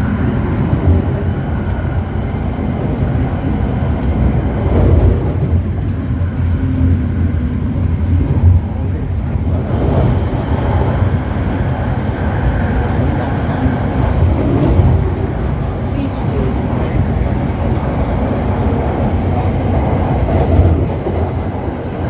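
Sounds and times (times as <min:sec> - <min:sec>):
train rumbling from inside: 0:00.0 - 0:22.0.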